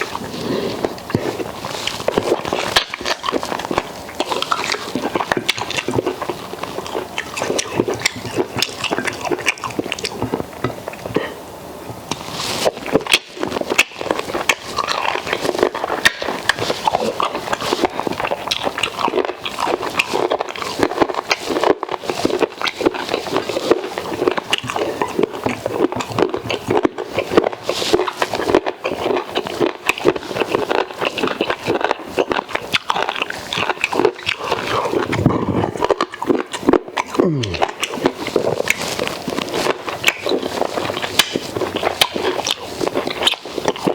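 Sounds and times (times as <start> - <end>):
person chewing and lip-smacking: 0.0 - 11.4, 12.1 - 43.9.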